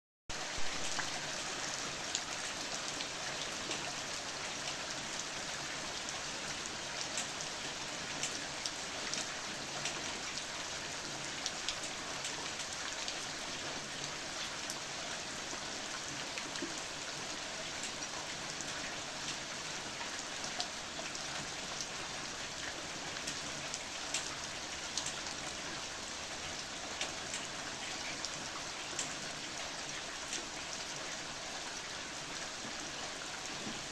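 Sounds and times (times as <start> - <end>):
raindrops pattering: 0.3 - 33.9
steady rain hiss: 0.3 - 33.9.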